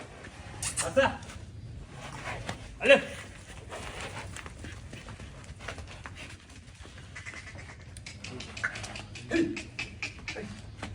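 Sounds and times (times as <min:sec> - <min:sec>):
livestock moving about: 0:01.2 - 0:10.9.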